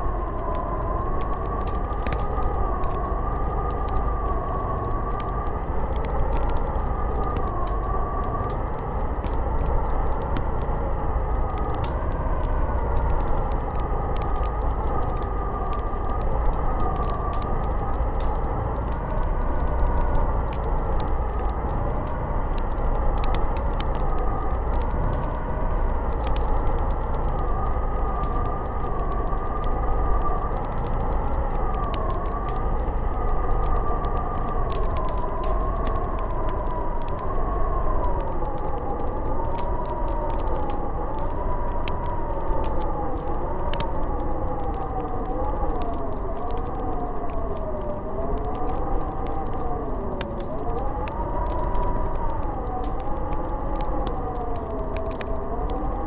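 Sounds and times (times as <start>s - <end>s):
constant low rumble: 0.0s - 56.0s
howling snowstorm wind: 0.0s - 56.0s
light crackling ticks: 0.0s - 56.0s.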